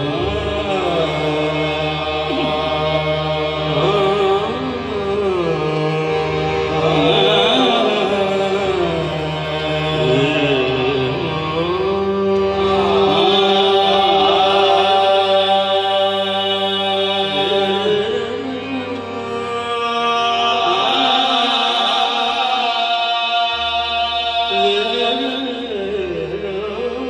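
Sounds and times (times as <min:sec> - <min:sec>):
harmonium chords: 0:00.0 - 0:27.0
singers drawing out long phrases: 0:00.0 - 0:27.0.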